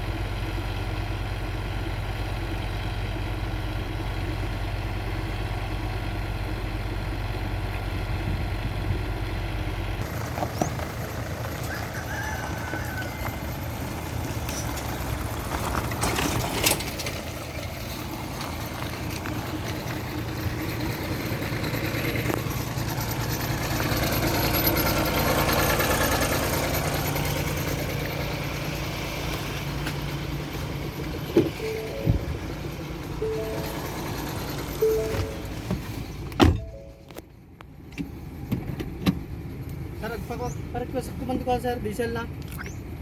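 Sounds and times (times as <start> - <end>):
heavy diesel engine running: 0.0 - 38.5.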